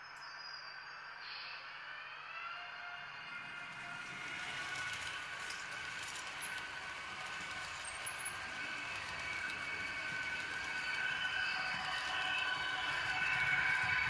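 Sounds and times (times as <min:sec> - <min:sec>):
wheels hissing on track: 0:01.1 - 0:14.0
model train motor whine: 0:01.3 - 0:14.0.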